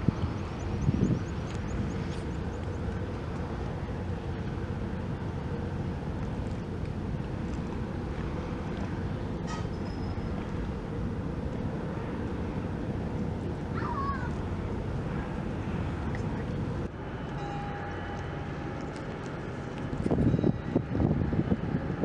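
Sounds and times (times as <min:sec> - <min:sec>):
ship engines humming: 0:00.0 - 0:22.0
ship rumble: 0:00.0 - 0:22.0.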